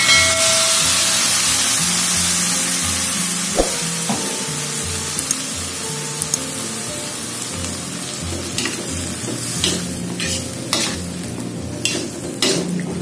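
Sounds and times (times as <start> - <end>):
water sizzling in a hot wok: 0.0 - 13.0.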